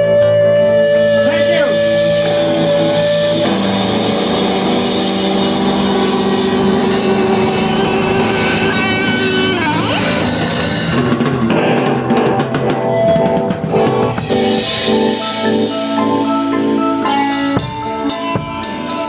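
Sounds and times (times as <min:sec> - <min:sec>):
electric guitar chords: 0:00.0 - 0:19.0
drum hits: 0:00.9 - 0:16.4, 0:17.1 - 0:19.0.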